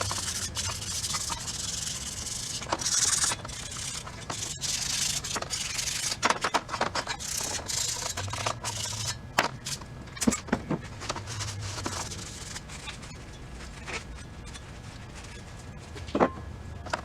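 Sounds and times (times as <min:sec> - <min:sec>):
rubbing and scraping strokes: 0:00.0 - 0:09.9, 0:10.8 - 0:16.1.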